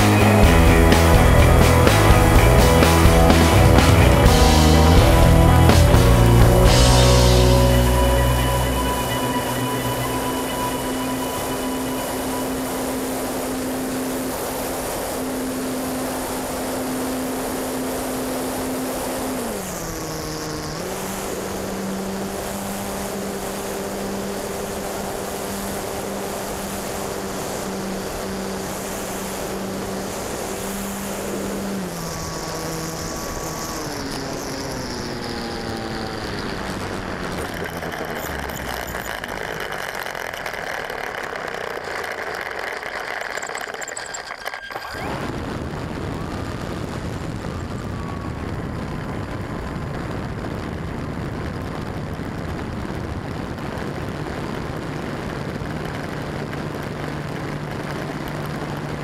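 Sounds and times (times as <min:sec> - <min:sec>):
model plane motor humming: 0:00.0 - 0:59.0
plane rolling over pavement: 0:00.0 - 0:59.0
wind noise on microphone: 0:00.0 - 0:59.0.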